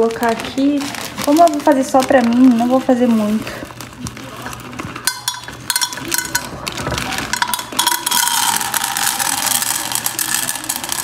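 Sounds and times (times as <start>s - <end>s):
popcorn kernels rattling into pan: 0.0s - 11.0s.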